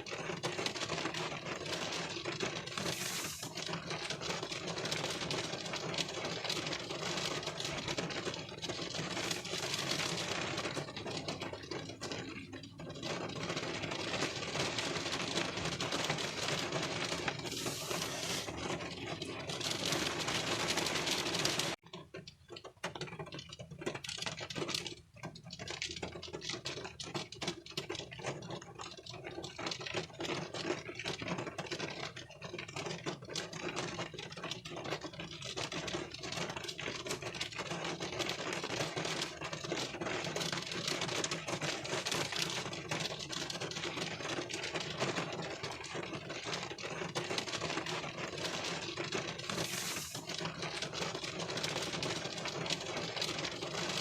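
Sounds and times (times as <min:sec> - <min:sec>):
rain on a car windshield: 0:00.0 - 0:54.0.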